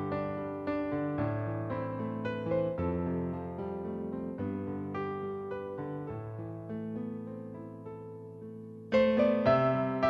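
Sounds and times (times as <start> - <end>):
piano background music: 0.0 - 10.0.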